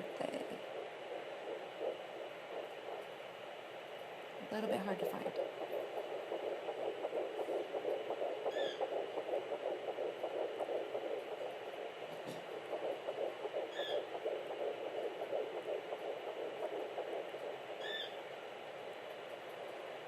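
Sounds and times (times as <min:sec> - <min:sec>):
fetal doppler heartbeat swish: 0:00.0 - 0:20.0.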